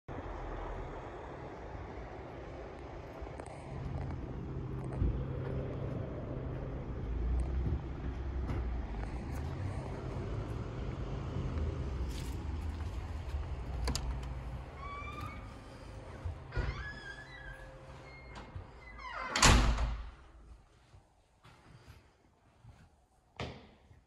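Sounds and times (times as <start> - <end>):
low outdoor rumble: 0.1 - 20.8.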